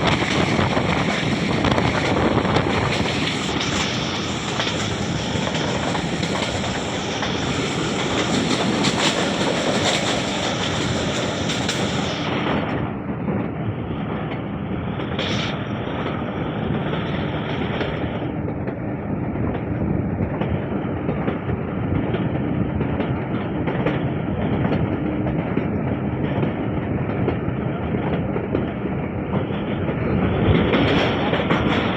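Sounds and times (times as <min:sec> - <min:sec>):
clickety-clack over rail joints: 0:00.0 - 0:31.9
train wheels rumbling on rails: 0:00.0 - 0:31.9.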